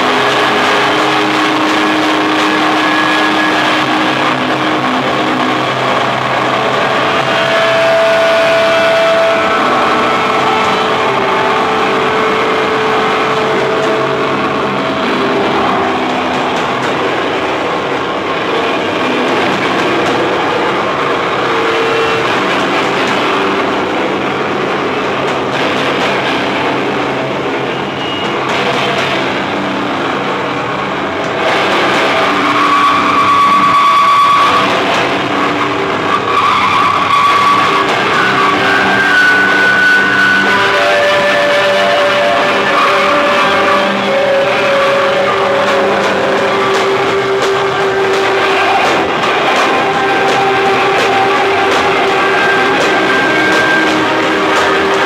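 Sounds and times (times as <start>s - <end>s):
rock band with distorted guitars: 0.0s - 55.0s.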